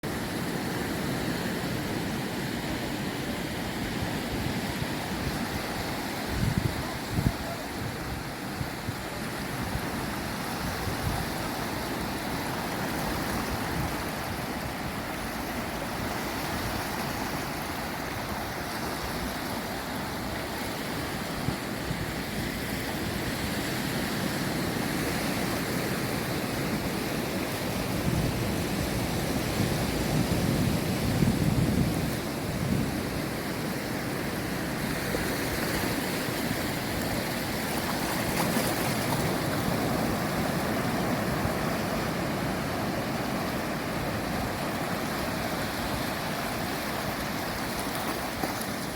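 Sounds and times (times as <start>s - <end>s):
surf washing onto shore: 0.0s - 48.9s.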